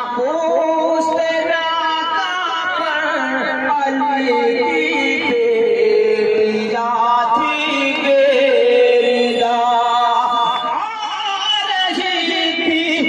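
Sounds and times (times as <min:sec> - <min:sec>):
man singing lament into microphone: 0:00.0 - 0:13.0.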